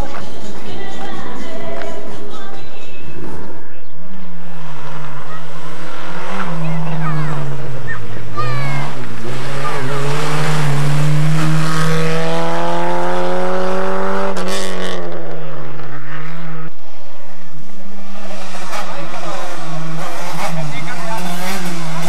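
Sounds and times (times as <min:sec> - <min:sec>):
rally car engine revving: 0:03.0 - 0:22.0.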